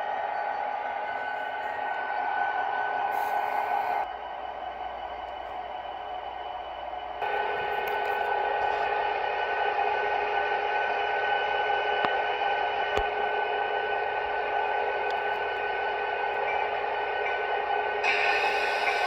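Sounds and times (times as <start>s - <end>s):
model train humming: 0.0s - 19.0s.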